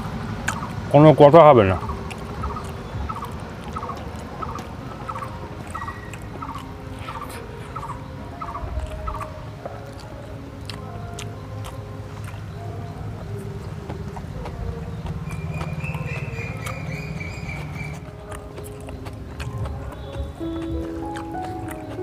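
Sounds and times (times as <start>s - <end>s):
bird calling repeatedly: 0.4s - 9.4s, 10.9s - 22.0s.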